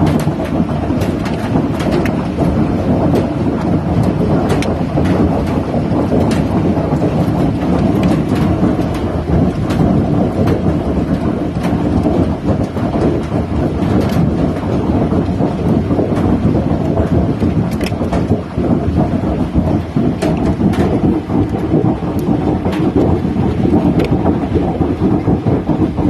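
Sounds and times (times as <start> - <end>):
hailstones clicking: 0.0 - 26.0.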